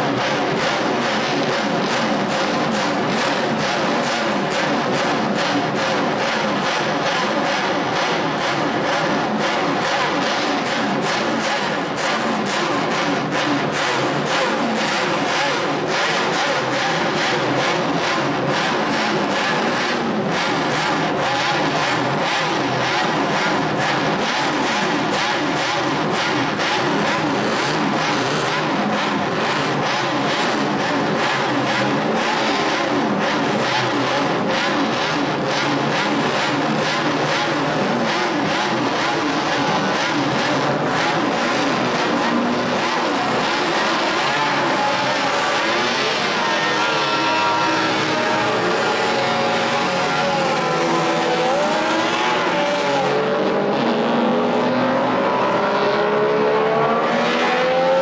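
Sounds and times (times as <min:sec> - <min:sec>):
racing engines at high revs: 0:00.0 - 0:58.0.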